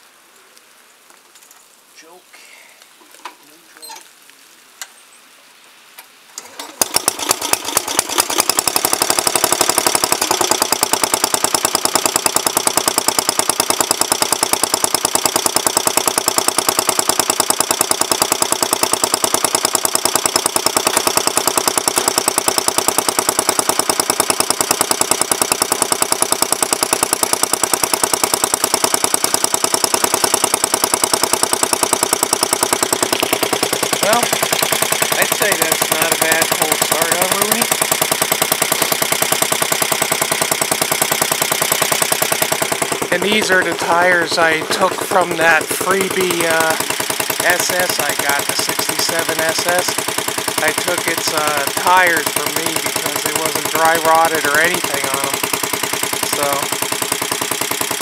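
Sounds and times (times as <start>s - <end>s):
electric starter cranking: 6.4s - 58.0s
garden tractor engine running: 6.4s - 58.0s.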